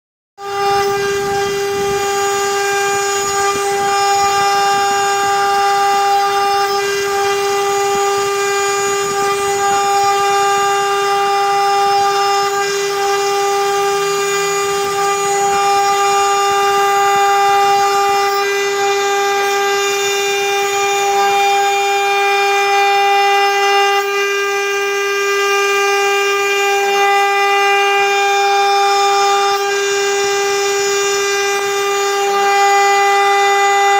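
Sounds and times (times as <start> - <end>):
router spindle whine: 0.4 - 33.9.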